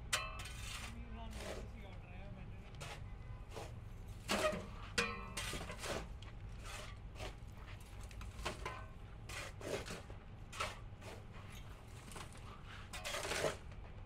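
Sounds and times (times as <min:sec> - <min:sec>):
scraping rubbing and knocking: 0:00.4 - 0:01.8, 0:02.8 - 0:13.8.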